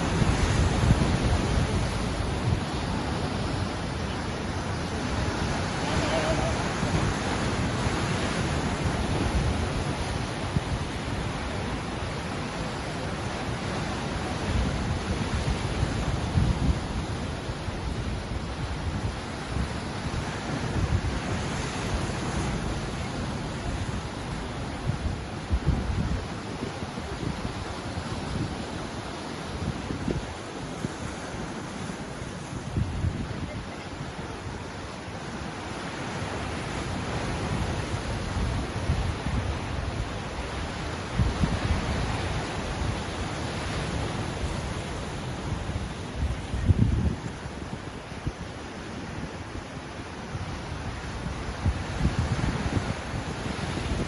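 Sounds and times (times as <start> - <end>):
ocean waves washing on shore: 0.0 - 54.0.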